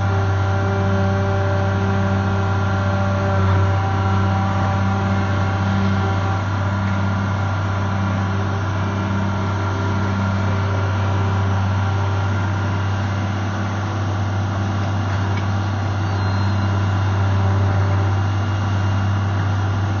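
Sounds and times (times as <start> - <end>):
excavator diesel engine humming: 0.0 - 20.0.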